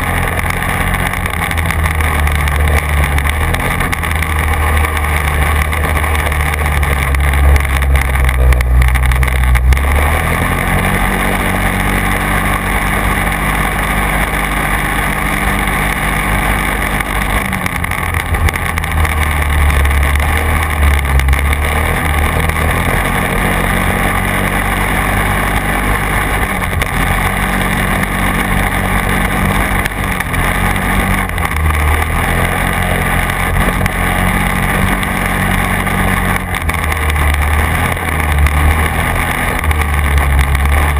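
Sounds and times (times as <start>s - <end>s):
quad engine running: 0.0s - 40.9s.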